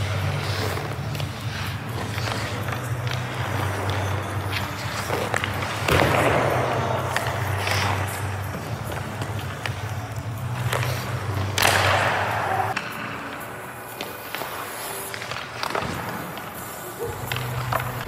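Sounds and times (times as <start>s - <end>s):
skate blades scraping ice: 0.0s - 18.0s.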